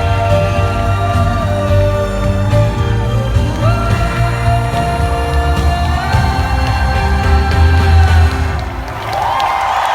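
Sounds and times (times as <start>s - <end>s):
live band music over loudspeakers: 0.0s - 9.8s.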